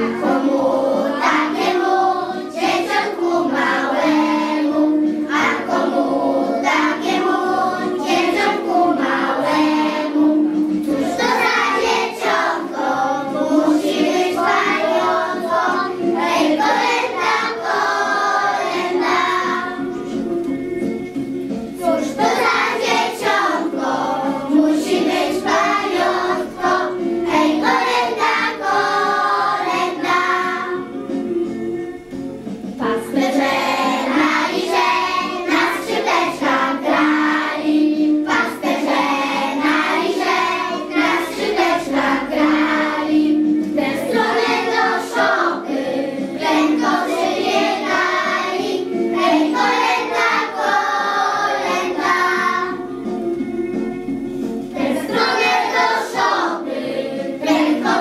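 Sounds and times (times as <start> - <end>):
children singing: 0.0 - 20.2, 21.8 - 30.9, 32.8 - 52.9, 54.7 - 58.0
music: 0.0 - 58.0.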